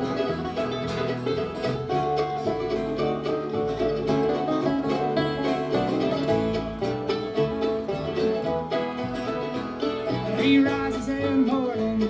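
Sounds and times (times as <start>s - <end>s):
banjo picking: 0.0s - 12.0s
bluegrass band playing: 0.0s - 12.0s.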